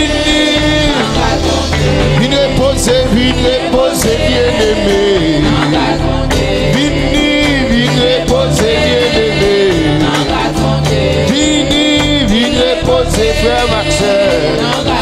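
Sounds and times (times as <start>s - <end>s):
band accompaniment with steady beat: 0.0s - 15.0s
person singing: 0.0s - 15.0s.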